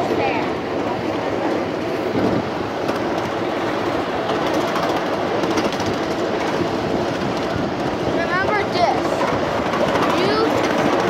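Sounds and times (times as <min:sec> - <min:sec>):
rumble of wheels on rail: 0:00.0 - 0:11.0.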